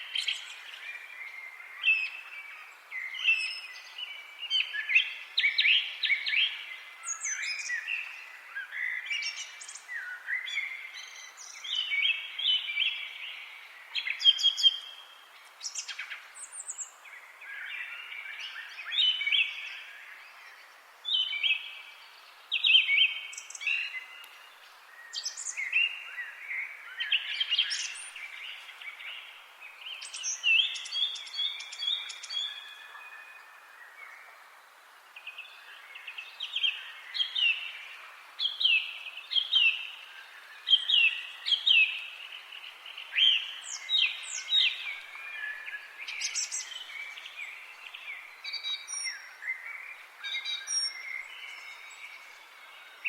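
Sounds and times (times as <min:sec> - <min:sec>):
faint steady hiss: 0:00.0 - 0:53.0
songbirds singing: 0:00.0 - 0:53.0.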